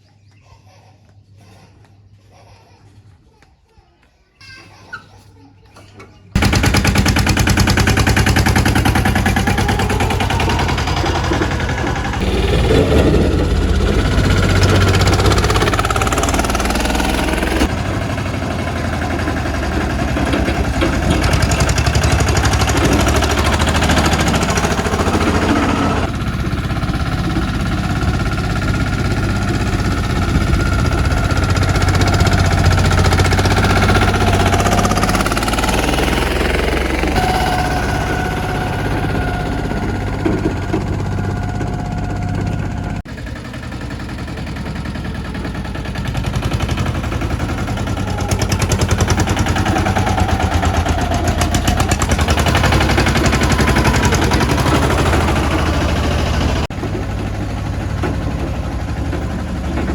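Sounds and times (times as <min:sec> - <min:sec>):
tractor engine chugging: 0:06.4 - 0:59.9.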